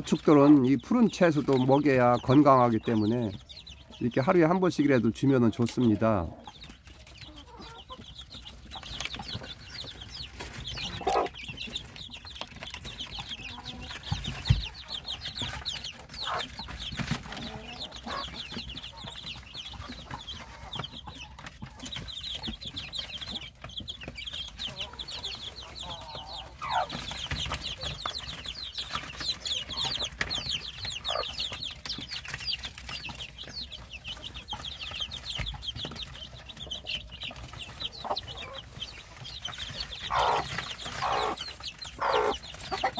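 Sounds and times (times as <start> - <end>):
chicks peeping: 0.0 - 42.9
hen clucking: 0.0 - 42.9.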